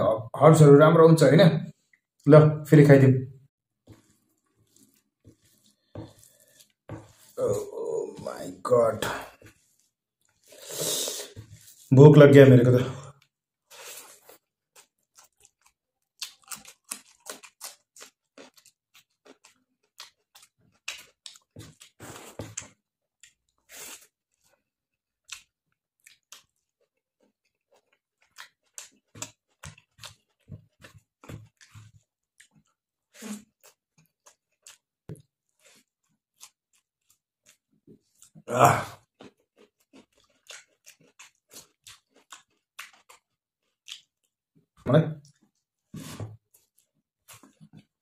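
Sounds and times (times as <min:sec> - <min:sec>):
person chewing and mouth smacking: 0:03.9 - 0:11.8, 0:13.2 - 0:44.4, 0:45.2 - 0:48.0.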